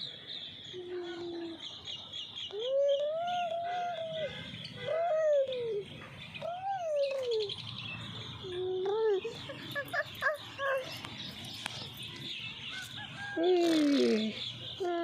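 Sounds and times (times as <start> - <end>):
small birds twittering: 0.0 - 15.0.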